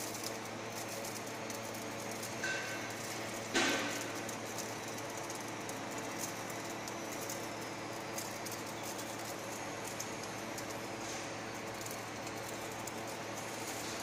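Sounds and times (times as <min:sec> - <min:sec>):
ice flakes ticking onto pile: 0:00.0 - 0:14.0
ice machine humming and hissing: 0:00.0 - 0:14.0.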